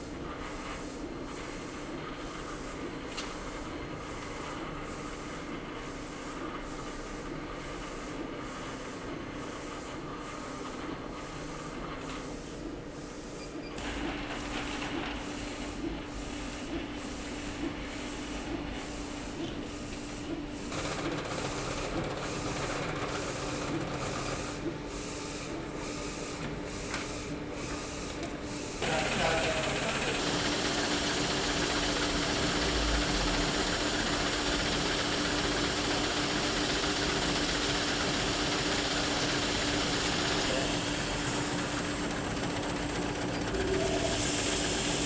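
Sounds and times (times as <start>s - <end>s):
printer mechanical hum: 0.0s - 45.0s.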